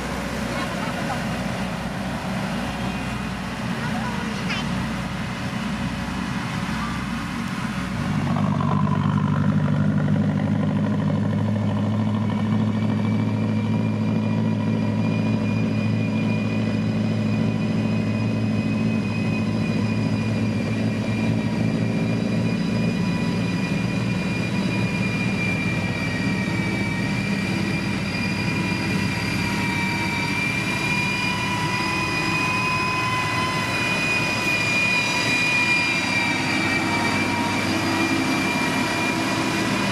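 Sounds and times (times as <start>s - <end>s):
diesel engine running: 0.0s - 39.9s
steady high whine: 0.0s - 39.9s.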